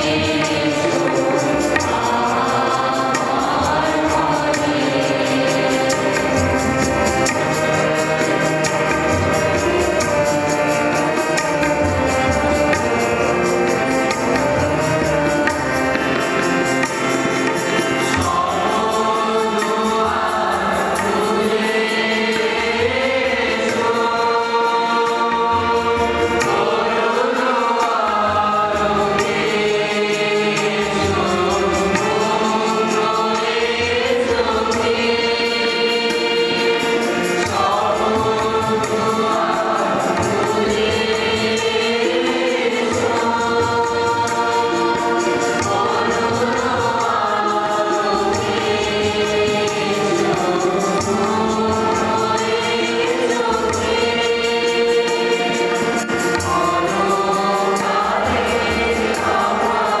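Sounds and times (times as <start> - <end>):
choir singing with music: 0.0 - 60.0.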